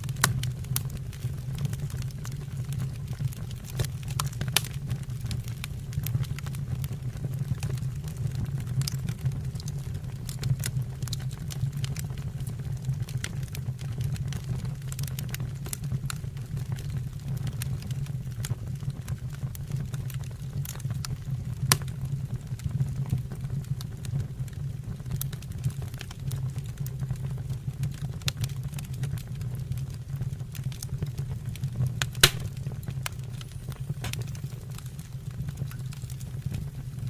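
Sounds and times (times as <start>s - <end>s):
low rumble of fire: 0.0s - 37.0s
wood fire crackling and popping: 0.0s - 37.0s.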